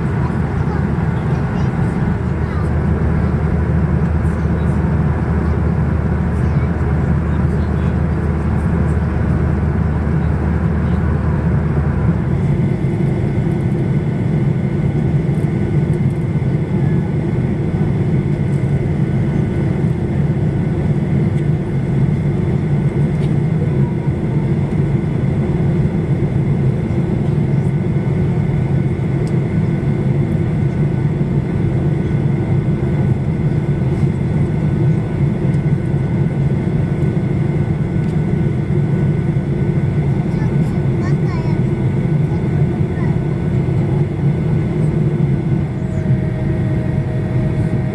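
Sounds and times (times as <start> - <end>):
faint steady whines: 0.0 - 47.9
jet roar in aircraft cabin: 0.0 - 47.9.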